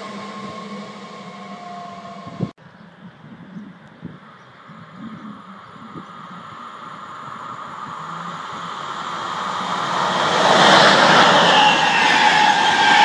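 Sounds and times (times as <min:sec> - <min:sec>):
train passing with rail noise: 0:00.0 - 0:03.1, 0:04.1 - 0:13.0.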